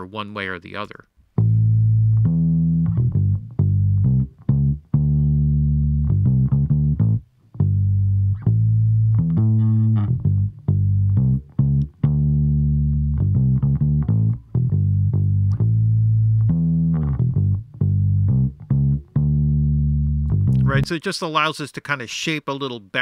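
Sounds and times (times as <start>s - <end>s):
electric bass guitar line: 1.4s - 20.9s.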